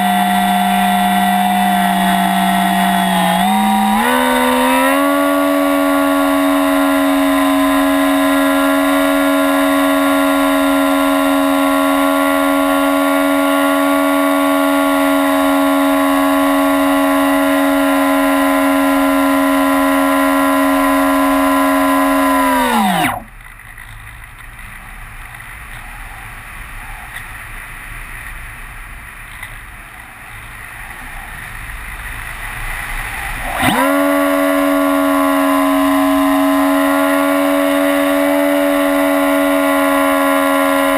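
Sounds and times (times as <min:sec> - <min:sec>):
electric motor propeller whine: 0:00.0 - 0:23.4, 0:30.9 - 0:40.9.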